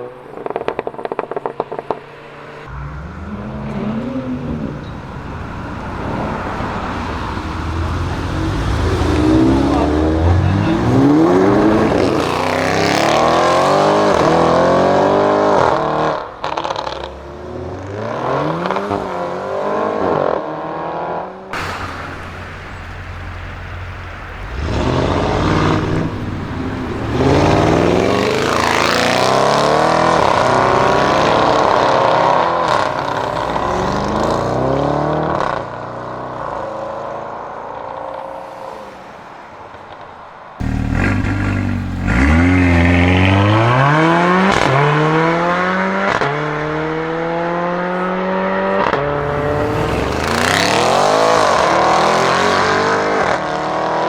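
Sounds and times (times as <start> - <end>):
car engine accelerating hard: 0.0 - 37.1, 40.6 - 54.0.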